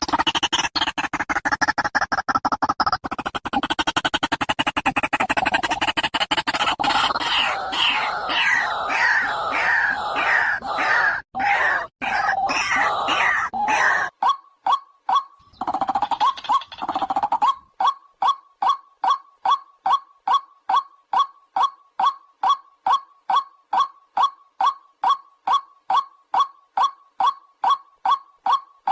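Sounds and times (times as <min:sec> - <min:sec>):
waterhen croaking calls: 0:05.0 - 0:28.9.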